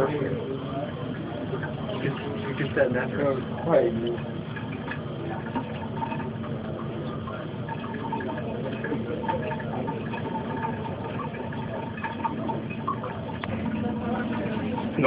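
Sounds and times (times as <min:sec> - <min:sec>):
sodium fizzing on water: 0:00.0 - 0:15.0.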